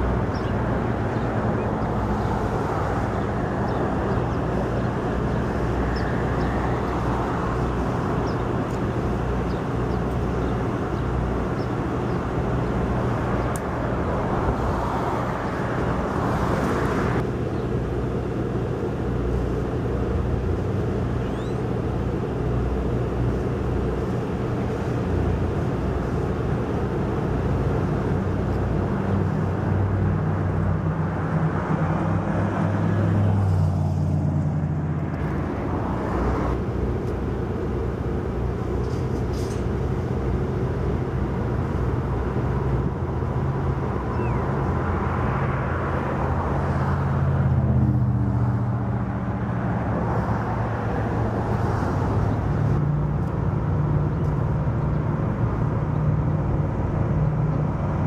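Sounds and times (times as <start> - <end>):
diesel locomotive engine running: 0.0 - 58.0
passing train rumble: 0.0 - 58.0.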